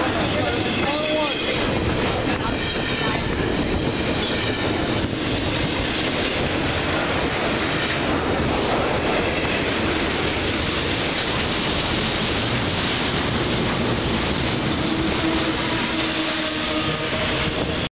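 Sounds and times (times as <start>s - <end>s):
steel wheels rushing on rail: 0.0s - 17.9s.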